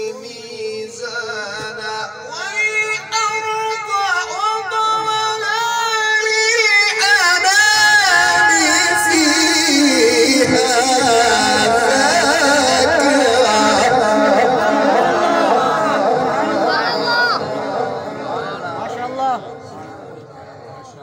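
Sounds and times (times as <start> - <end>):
man chanting through a microphone: 0.0 - 21.0.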